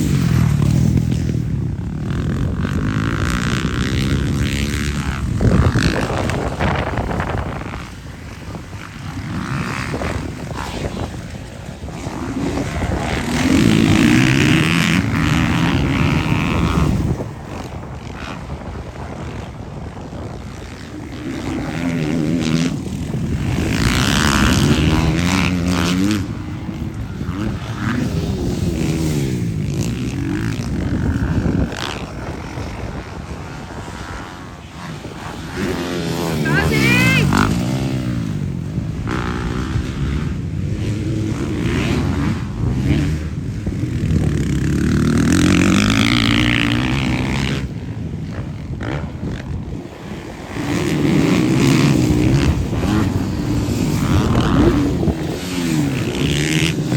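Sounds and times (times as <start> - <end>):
dirt bike engines racing: 0.0 - 56.9.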